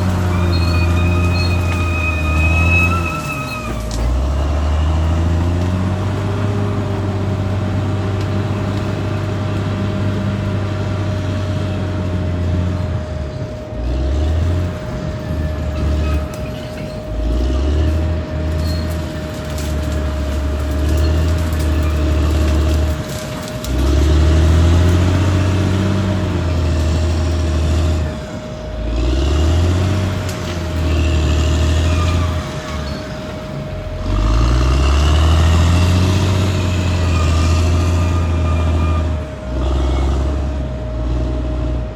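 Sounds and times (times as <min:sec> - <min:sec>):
bulldozer diesel engine under load: 0:00.0 - 0:41.9.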